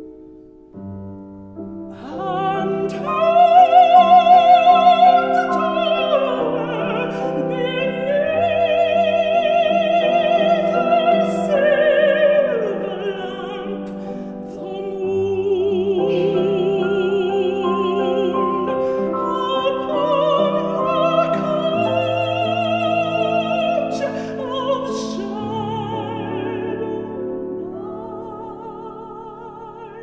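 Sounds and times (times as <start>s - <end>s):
piano accompaniment: 0.0s - 30.0s.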